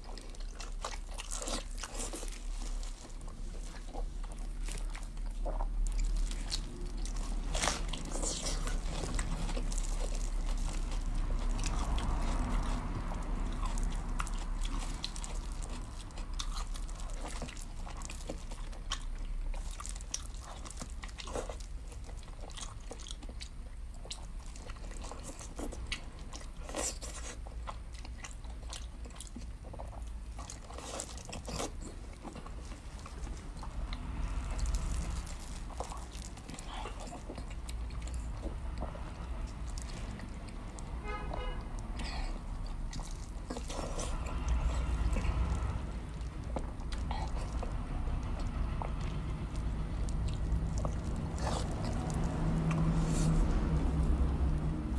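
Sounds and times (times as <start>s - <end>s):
person chewing and crunching: 0.0s - 54.9s
steady low hum: 0.0s - 54.9s.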